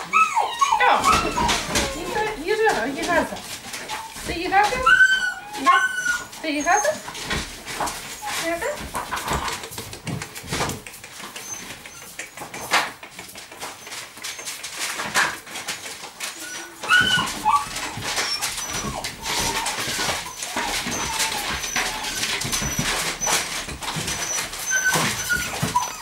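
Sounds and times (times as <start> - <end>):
paws clicking on tiled floor: 0.0 - 26.0
puppy whining: 0.0 - 26.0.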